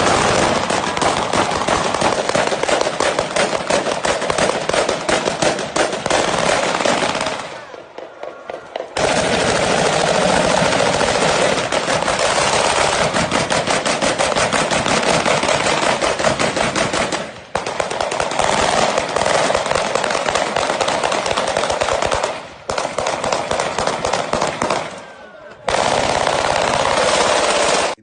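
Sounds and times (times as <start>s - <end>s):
rapid gunfire: 0.0s - 25.1s, 25.7s - 28.0s.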